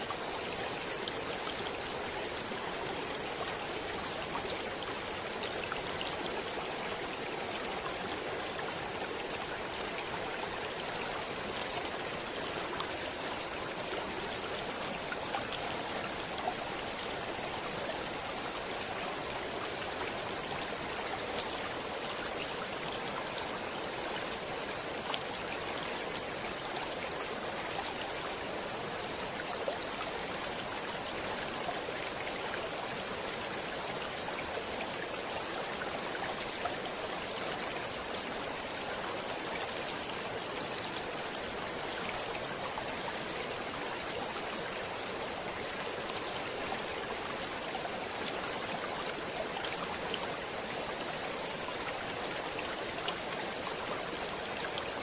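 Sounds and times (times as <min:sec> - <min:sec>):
stream water running over rocks: 0:00.0 - 0:55.0.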